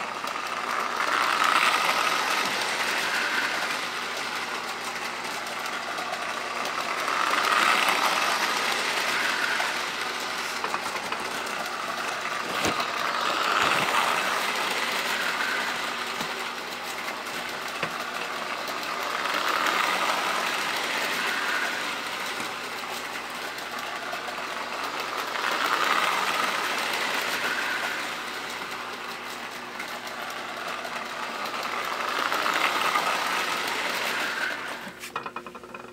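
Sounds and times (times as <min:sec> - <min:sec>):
toy train running on metal track: 0:00.0 - 0:35.9.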